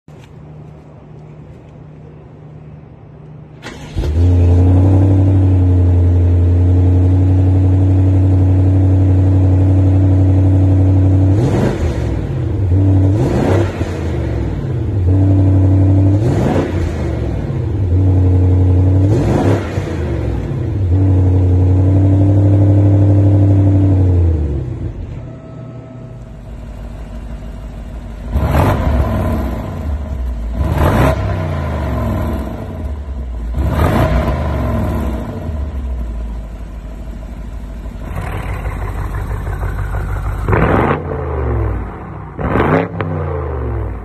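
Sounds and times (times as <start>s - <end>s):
car engine idling and revving: 0.1s - 44.0s.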